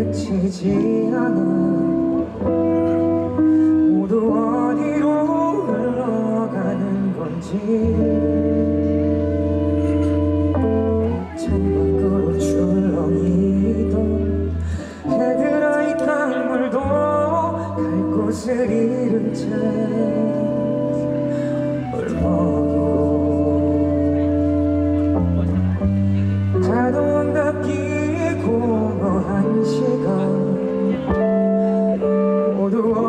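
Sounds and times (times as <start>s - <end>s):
person singing: 0.0s - 33.0s
slow gentle live song: 0.0s - 33.0s.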